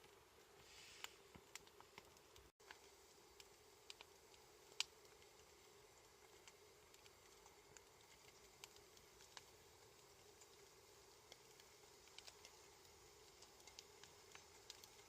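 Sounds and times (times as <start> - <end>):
faint steady hum: 0.0 - 15.0
wood fire crackling: 0.0 - 15.0.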